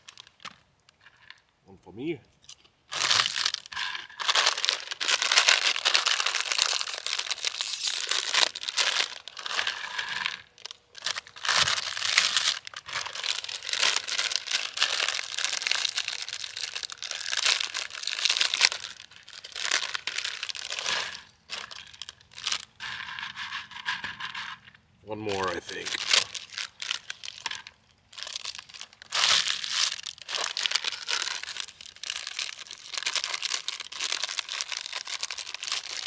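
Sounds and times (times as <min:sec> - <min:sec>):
plastic snack bags crinkling: 0:00.0 - 0:01.5, 0:02.9 - 0:36.0.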